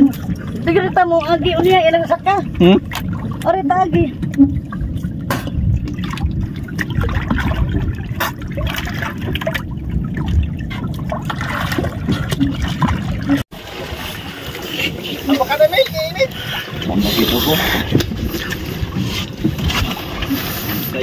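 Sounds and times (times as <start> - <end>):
seawater sloshing and splashing: 0.0 - 21.0.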